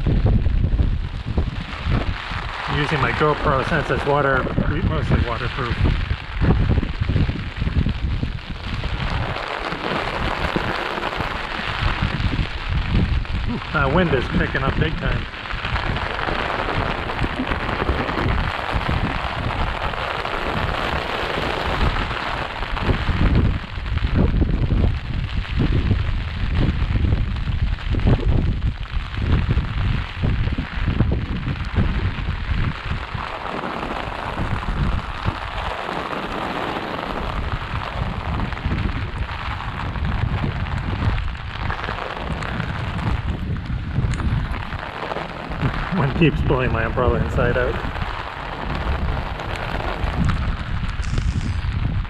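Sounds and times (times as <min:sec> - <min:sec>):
heavy rain pouring: 0:00.0 - 0:52.0
wind buffeting microphone: 0:00.0 - 0:52.0.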